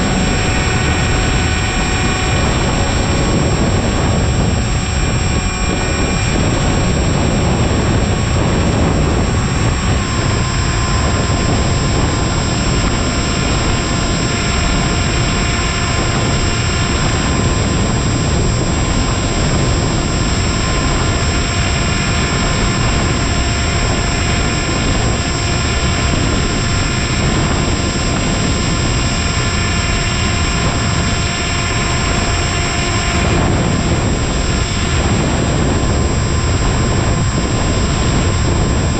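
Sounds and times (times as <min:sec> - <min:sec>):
model plane motor whine: 0:00.0 - 0:38.9
wind rush on microphone: 0:00.0 - 0:38.9.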